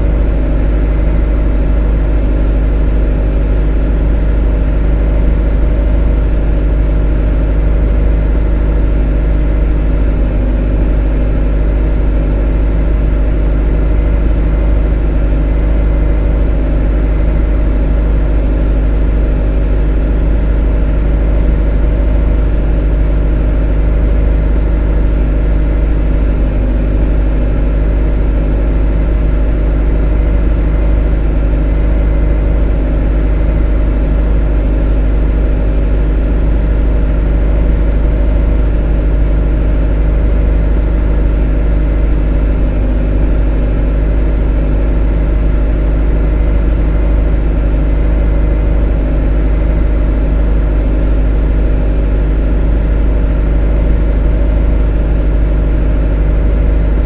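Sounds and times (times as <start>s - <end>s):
motor humming steadily: 0.0s - 57.0s.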